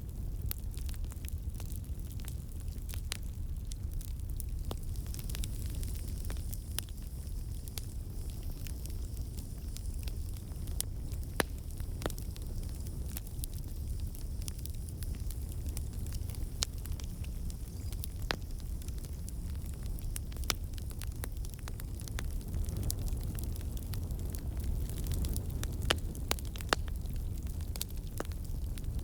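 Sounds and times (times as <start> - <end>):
burning wood crackling and popping: 0.0 - 29.0
campfire rumbling: 0.0 - 29.0.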